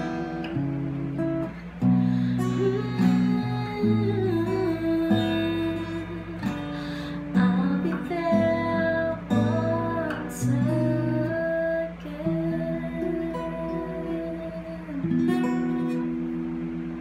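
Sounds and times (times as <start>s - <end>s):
woman singing: 0.0s - 1.6s, 2.3s - 16.4s
acoustic guitar chords: 0.0s - 17.0s.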